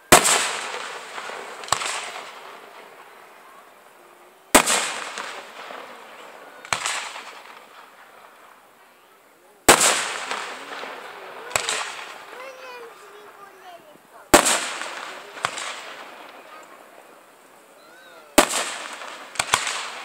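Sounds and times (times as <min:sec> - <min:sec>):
firework shells bursting: 0:00.0 - 0:20.0.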